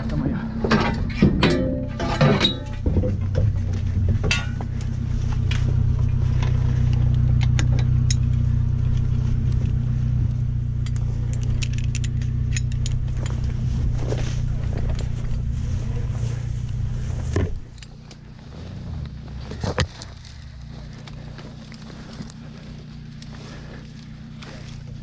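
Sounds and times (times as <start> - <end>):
car engine idling: 0.0 - 25.0
light clicks and rustles: 2.4 - 25.0.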